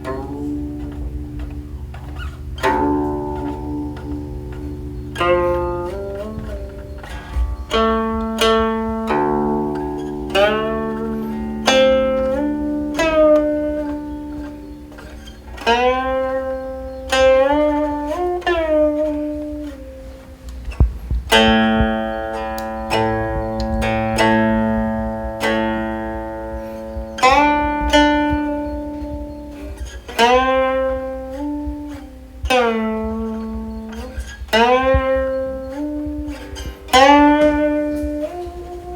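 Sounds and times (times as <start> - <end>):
plucked zither notes sliding in pitch: 0.0 - 38.9.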